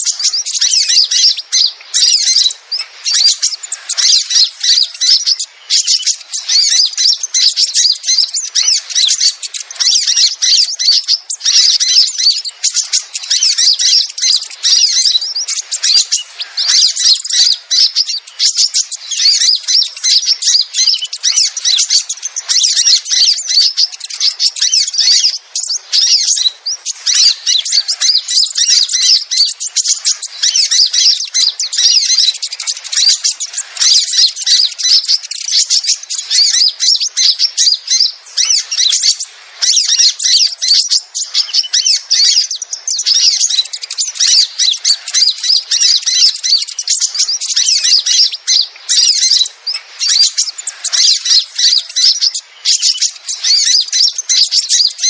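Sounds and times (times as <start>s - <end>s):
rapid high-pitched bird chirping: 0.0s - 55.0s.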